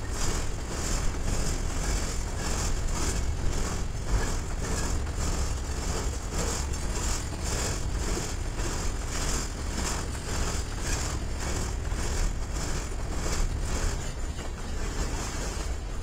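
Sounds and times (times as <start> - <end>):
deep train rumble: 0.0 - 16.0
train wheels clacking on track: 0.0 - 16.0.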